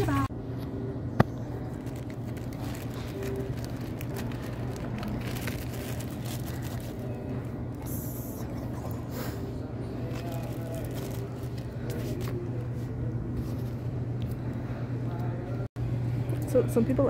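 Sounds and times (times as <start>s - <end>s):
shop ambience hum: 0.0s - 17.0s.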